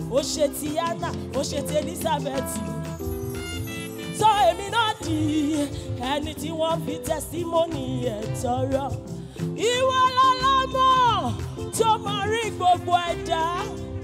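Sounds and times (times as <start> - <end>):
woman singing lead vocal: 0.0 - 3.0, 4.0 - 14.0.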